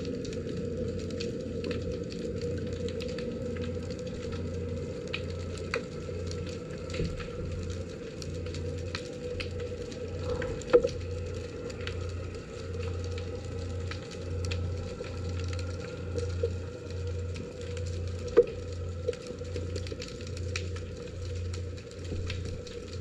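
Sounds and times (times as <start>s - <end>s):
low underwater hum: 0.0s - 23.0s.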